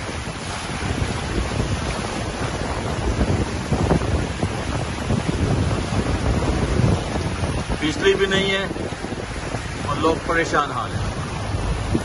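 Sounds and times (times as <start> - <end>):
floodwater rushing and splashing: 0.0 - 12.0
wind buffeting microphone: 0.0 - 12.0.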